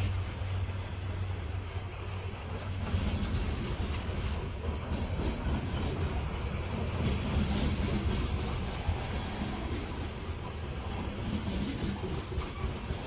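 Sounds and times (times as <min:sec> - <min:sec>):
freight train rumbling by: 0:00.0 - 0:13.0
wheel noise on rails: 0:00.0 - 0:13.0.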